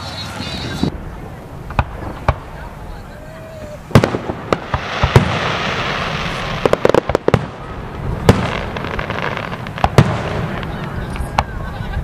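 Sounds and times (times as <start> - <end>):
fireworks bangs: 0.0 - 12.0
hissing crackling wash: 0.0 - 12.0.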